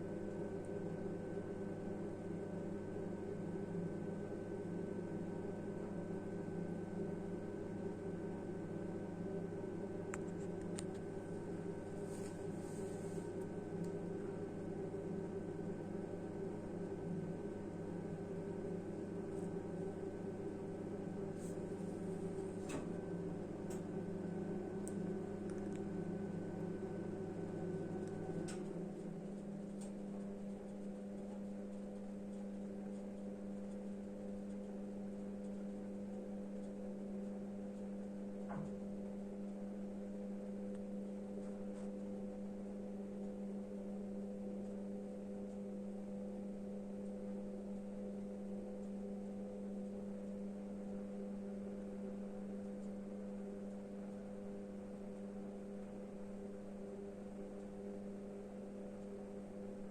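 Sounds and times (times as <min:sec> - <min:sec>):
steady hum of held tones: 0:00.0 - 0:59.9.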